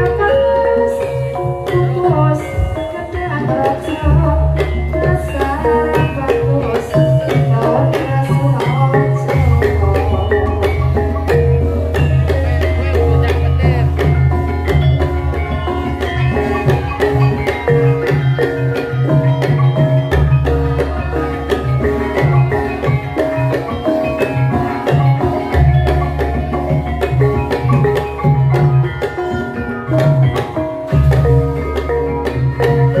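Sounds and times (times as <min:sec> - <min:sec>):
drum strokes: 0:00.0 - 0:33.0
metallophones playing quick runs: 0:00.0 - 0:33.0.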